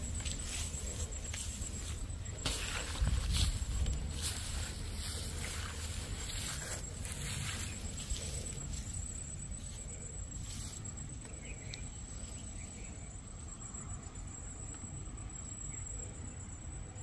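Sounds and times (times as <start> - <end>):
insect chirring: 0.0 - 17.0.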